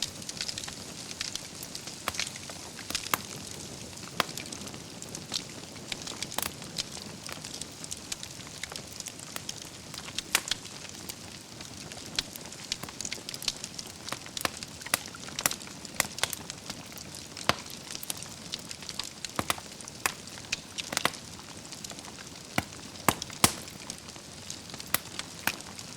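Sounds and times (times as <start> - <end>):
logs crackling and popping: 0.0 - 25.9.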